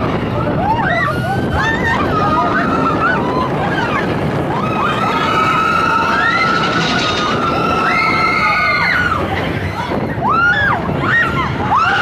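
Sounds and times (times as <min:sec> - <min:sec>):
riders whooping and screaming: 0:00.0 - 0:12.0
roller coaster train rumble: 0:00.0 - 0:12.0.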